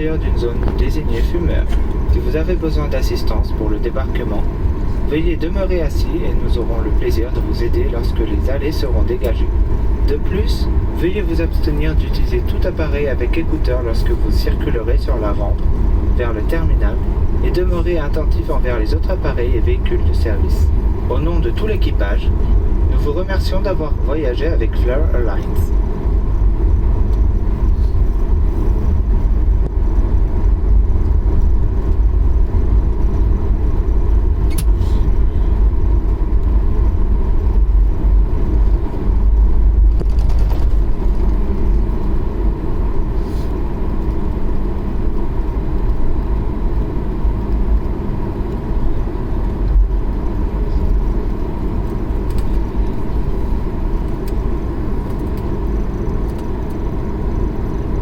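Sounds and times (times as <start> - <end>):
airliner cabin rumble: 0.0 - 58.0
idling jet engines hum: 0.0 - 58.0.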